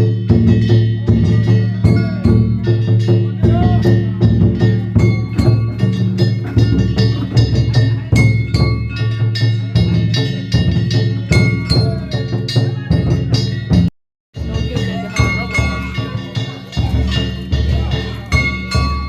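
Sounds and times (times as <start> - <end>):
big drum beating: 0.0 - 19.0
metal gongs ringing: 0.0 - 19.0.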